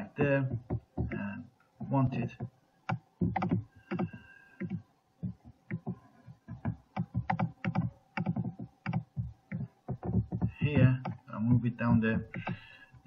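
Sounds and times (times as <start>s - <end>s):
keyboard and mouse clicking: 0.3s - 12.7s.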